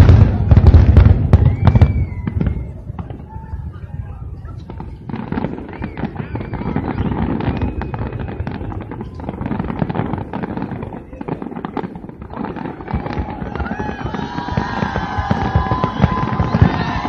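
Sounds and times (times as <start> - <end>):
fireworks booming: 0.0 - 17.0
fireworks crackling and popping: 0.0 - 17.0.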